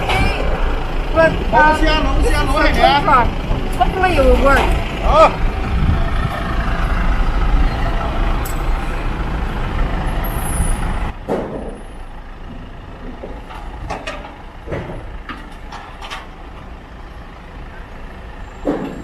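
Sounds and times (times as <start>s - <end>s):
truck engine low rumble: 0.0s - 19.0s.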